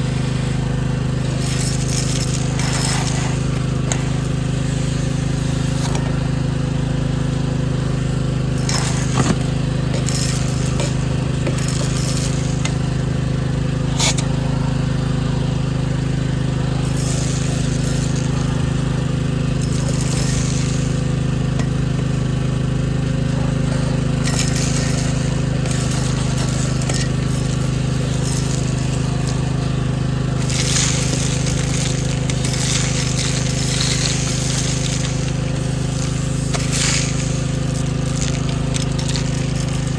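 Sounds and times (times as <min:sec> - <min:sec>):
hissing and scraping: 0:00.0 - 0:07.1, 0:07.8 - 0:15.3, 0:16.3 - 0:39.9
motor droning: 0:00.0 - 0:39.9.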